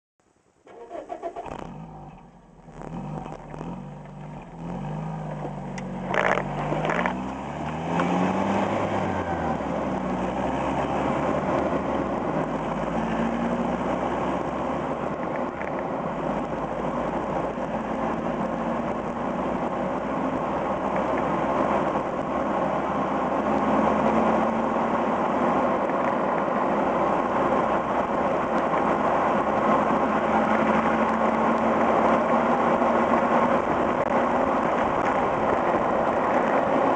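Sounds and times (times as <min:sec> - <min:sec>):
road rushing noise: 0:00.6 - 0:36.9
car exhaust revving: 0:00.9 - 0:36.9.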